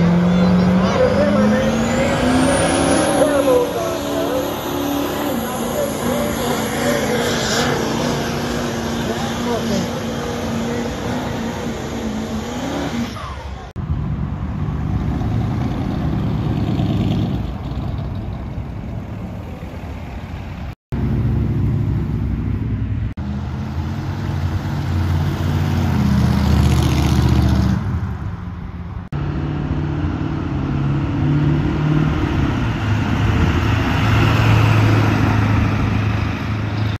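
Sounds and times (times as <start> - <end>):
truck engines running under load: 0.0 - 37.0.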